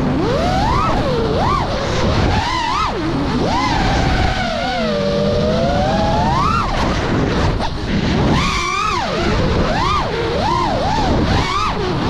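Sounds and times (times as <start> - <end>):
drone motors whining: 0.0 - 12.0
low wind rumble: 0.0 - 12.0.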